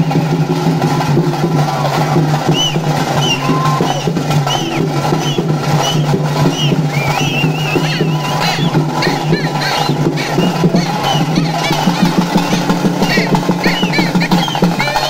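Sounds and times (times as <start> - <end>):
drums beaten hard and fast: 0.0 - 15.0
shrill rising and falling whistles: 1.8 - 15.0.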